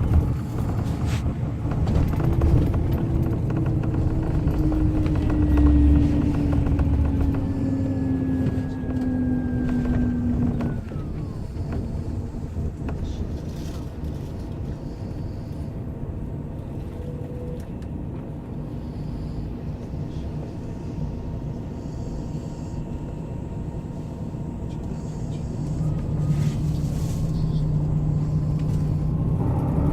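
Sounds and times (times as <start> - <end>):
vehicle engine rumble: 0.0 - 29.9.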